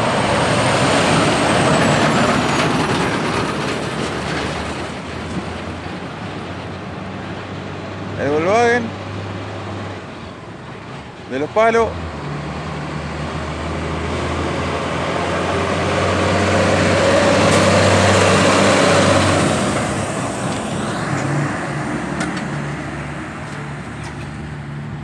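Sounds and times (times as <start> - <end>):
truck driving past: 0.0 - 25.0.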